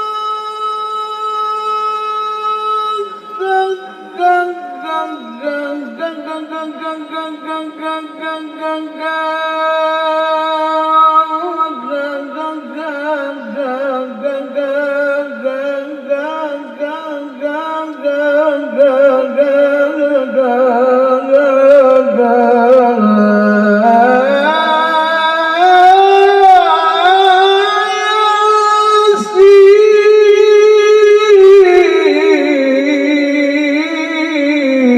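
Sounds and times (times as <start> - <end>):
man singing melismatic melody: 0.0 - 34.9.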